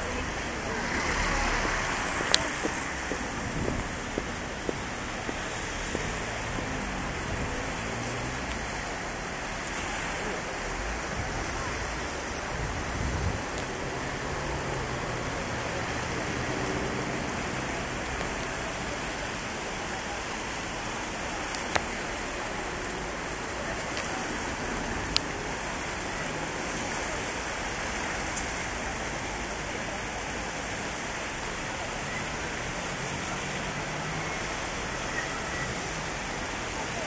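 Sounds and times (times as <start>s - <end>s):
river rushing in flood: 0.0s - 37.0s.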